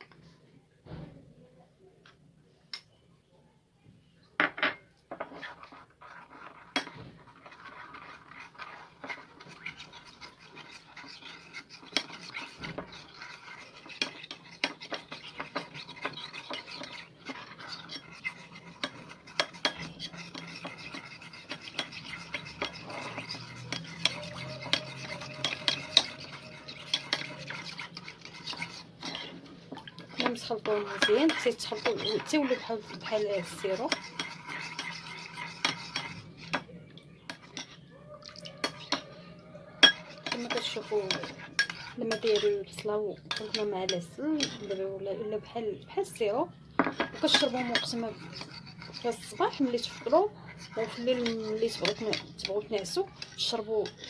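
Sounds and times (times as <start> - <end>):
spoon stirring and clinking in dish: 4.3 - 54.0.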